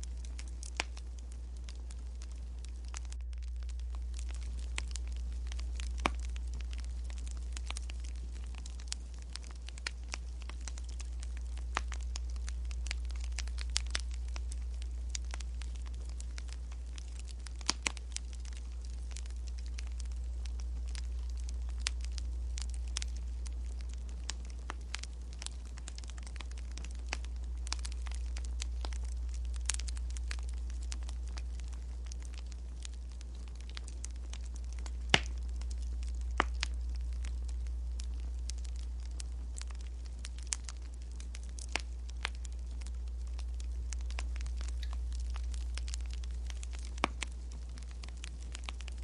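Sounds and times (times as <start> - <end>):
low hum: 0.0 - 49.0
wood fire crackling: 0.0 - 49.0.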